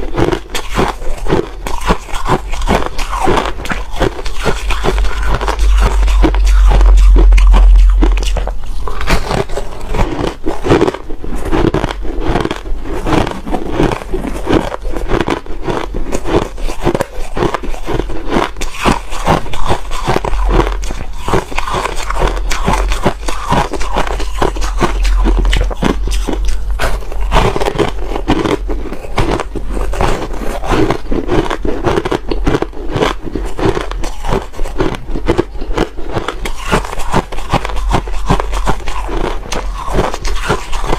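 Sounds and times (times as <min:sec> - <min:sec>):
ice being chewed and crunched: 0:00.0 - 0:40.9.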